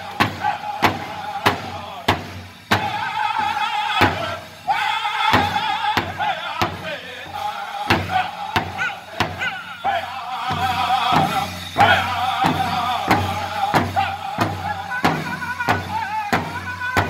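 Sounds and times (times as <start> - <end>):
high-pitched unison singing: 0.0 - 17.0
large hide drum beating: 0.0 - 17.0.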